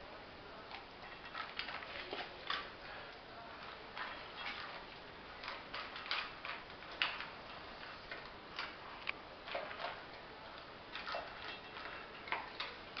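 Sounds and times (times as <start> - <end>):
dog eating from metal bowl: 0.5 - 13.0.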